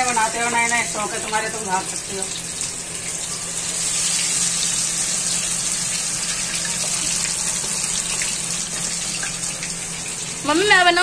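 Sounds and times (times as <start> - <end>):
oil deep-frying sizzle: 0.0 - 11.0.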